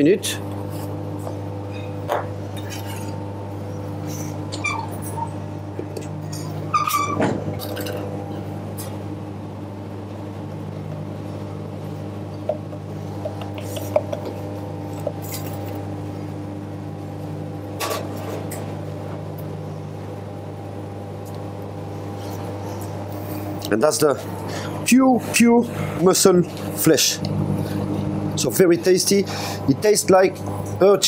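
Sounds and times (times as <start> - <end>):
kitchen machinery humming: 0.0 - 31.0.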